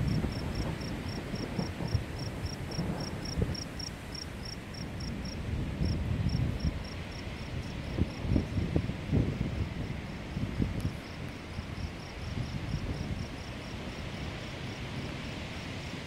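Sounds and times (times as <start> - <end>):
cricket chirping: 0.0 - 8.4, 9.4 - 16.0.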